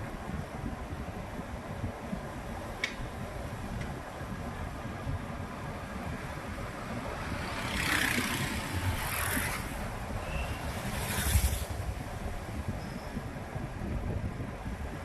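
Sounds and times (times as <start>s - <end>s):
motorbike rumble with wind noise: 0.0s - 15.0s
vehicles passing close by: 0.0s - 15.0s.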